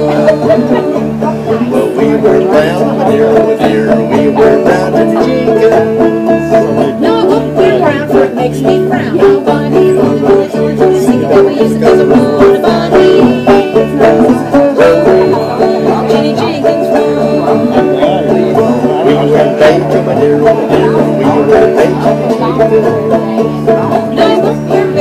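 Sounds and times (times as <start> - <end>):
banjo picking: 0.0 - 25.0
plucked upright bass: 0.0 - 25.0.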